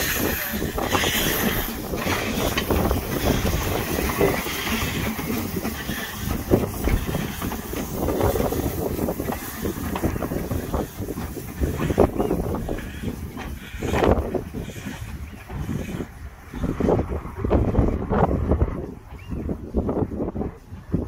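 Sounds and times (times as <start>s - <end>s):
running gear clanking on rails: 0.0s - 20.8s
steam hissing from cylinders: 0.0s - 21.0s.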